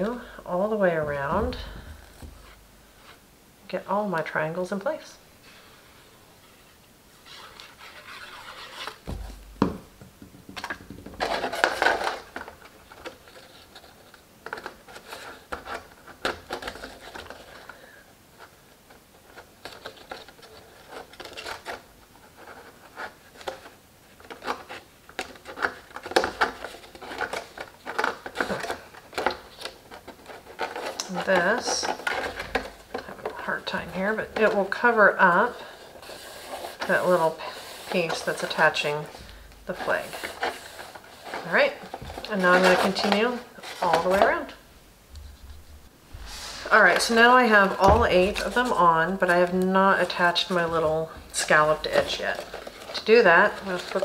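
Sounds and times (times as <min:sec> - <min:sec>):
cardstock rustling and tapping: 0:07.6 - 0:17.8, 0:18.4 - 0:44.5, 0:46.6 - 0:54.0.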